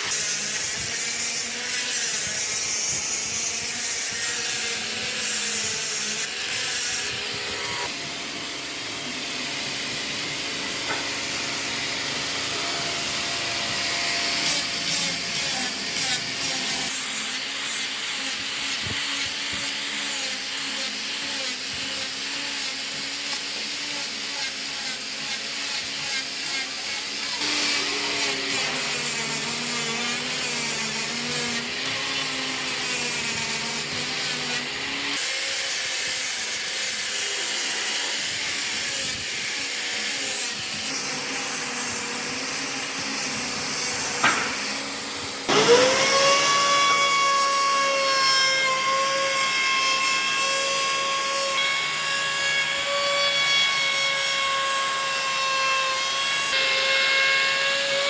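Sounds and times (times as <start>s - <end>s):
power tool motor hum: 0.0s - 58.0s
rasping wood cutting: 0.0s - 58.0s.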